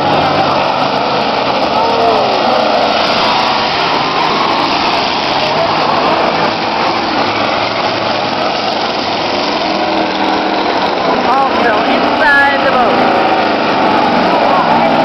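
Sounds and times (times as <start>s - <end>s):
car engines running hard: 0.0s - 15.0s.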